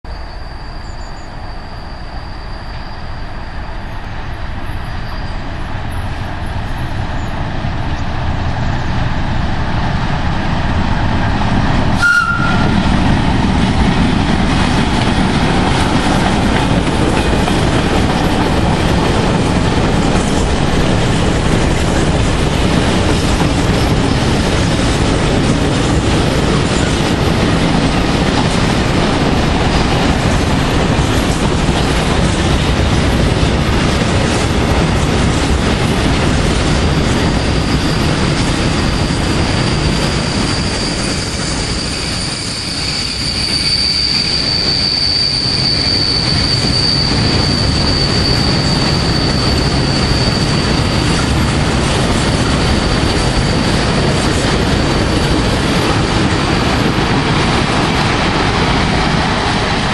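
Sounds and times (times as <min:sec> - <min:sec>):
freight train rumble: 0:00.0 - 0:59.9
wheels clattering on rails: 0:11.9 - 0:59.9.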